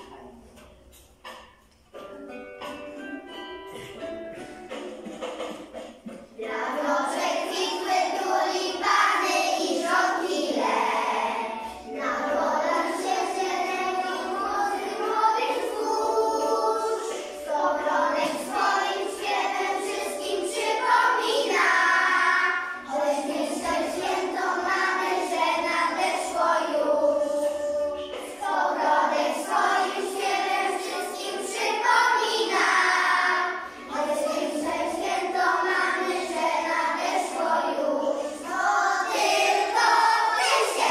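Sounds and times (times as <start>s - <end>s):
children singing in chorus: 6.4s - 40.9s.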